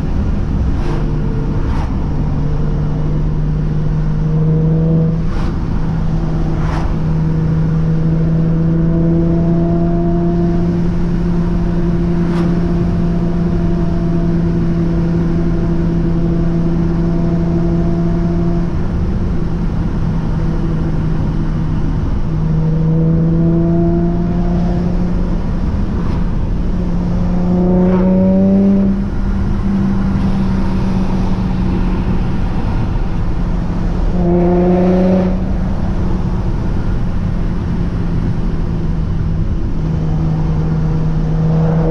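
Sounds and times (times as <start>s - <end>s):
car engine accelerating: 0.0s - 41.9s
road noise: 0.0s - 41.9s.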